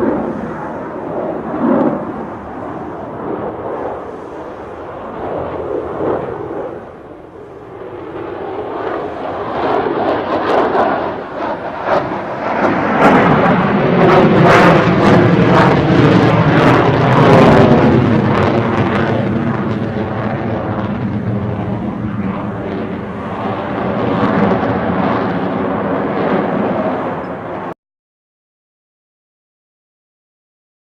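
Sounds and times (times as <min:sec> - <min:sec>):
jet engine roar: 0:00.0 - 0:27.8.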